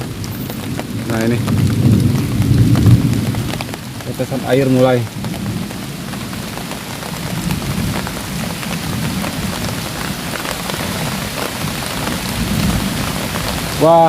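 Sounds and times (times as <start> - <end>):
heavy rain hissing: 0.0 - 14.0.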